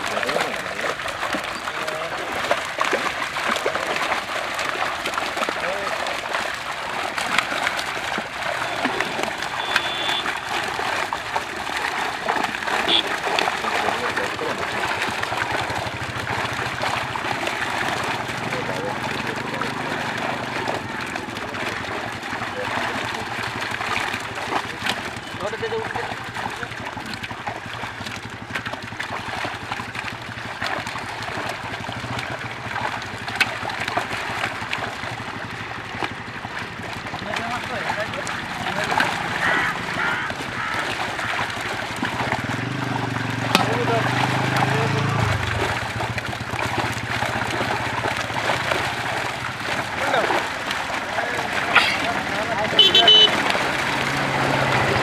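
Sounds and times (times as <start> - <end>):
fish thrashing in a net: 0.0 - 55.0
water churning and splashing: 0.0 - 55.0.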